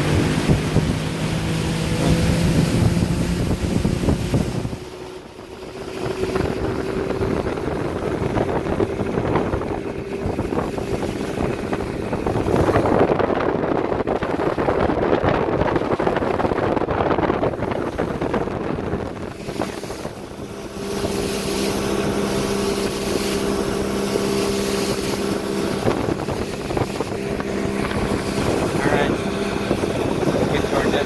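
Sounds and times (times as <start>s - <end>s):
boat motor running: 0.0s - 31.0s
water rushing past hull: 0.0s - 31.0s
wind buffeting microphone: 0.0s - 31.0s.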